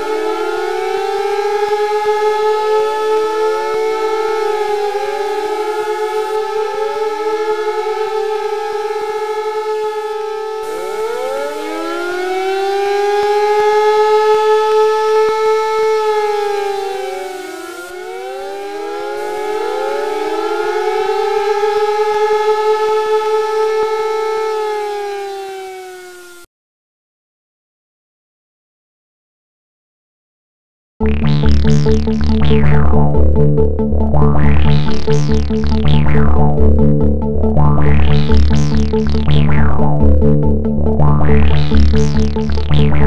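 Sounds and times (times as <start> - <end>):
siren wailing: 0.0 - 26.5, 31.0 - 43.0.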